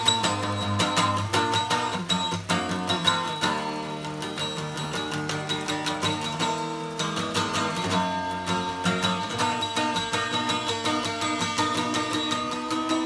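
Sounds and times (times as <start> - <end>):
strummed guitar music: 0.0 - 13.0.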